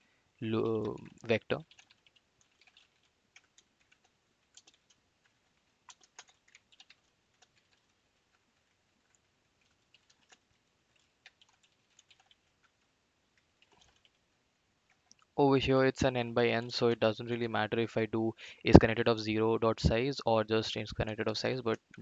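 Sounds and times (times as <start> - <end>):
faint computer keyboard typing: 0.4 - 15.4, 16.1 - 19.2.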